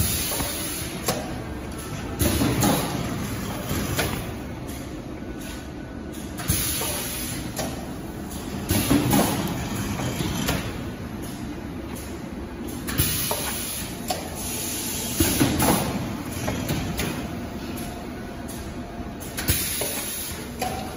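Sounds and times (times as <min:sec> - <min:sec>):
machine humming and hissing: 0:00.0 - 0:20.9.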